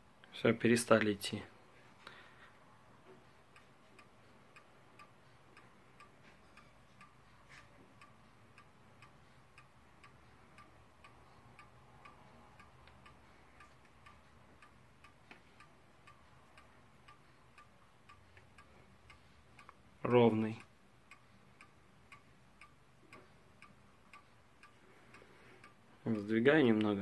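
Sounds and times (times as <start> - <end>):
pendulum clock ticking: 2.0 - 27.0.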